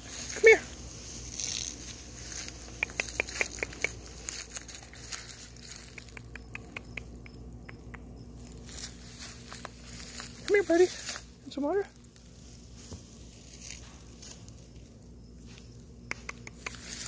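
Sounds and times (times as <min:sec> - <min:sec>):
deer cropping grass stems: 0:00.0 - 0:07.3, 0:08.4 - 0:17.0.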